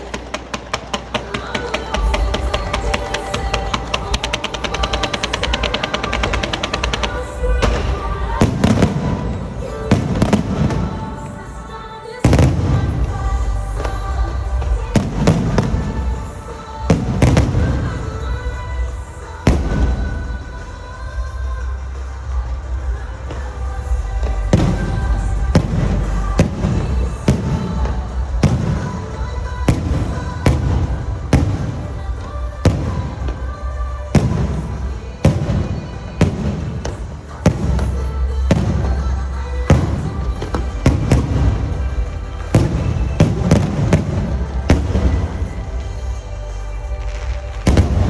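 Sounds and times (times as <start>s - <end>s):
fireworks bursting: 0.0s - 48.0s
music playing: 0.0s - 48.0s.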